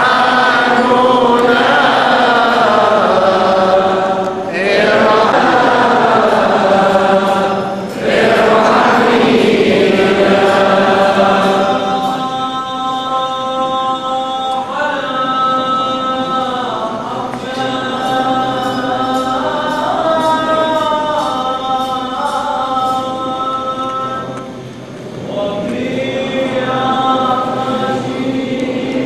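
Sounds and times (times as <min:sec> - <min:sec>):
choir singing a slow chant: 0:00.0 - 0:29.0.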